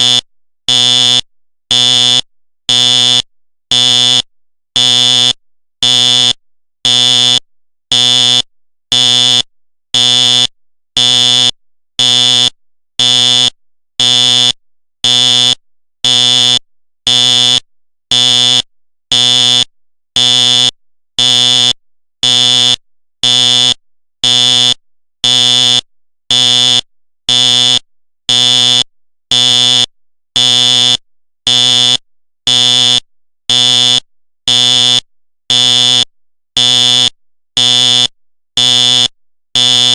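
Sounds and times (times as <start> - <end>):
fire alarm pulsing buzzy tone: 0.0 - 39.9.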